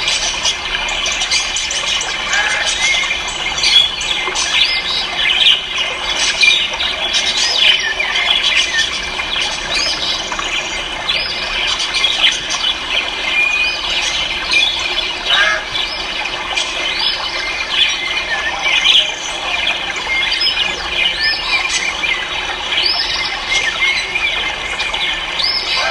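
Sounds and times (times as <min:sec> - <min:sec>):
chorus of birds chirping: 0:00.0 - 0:25.9.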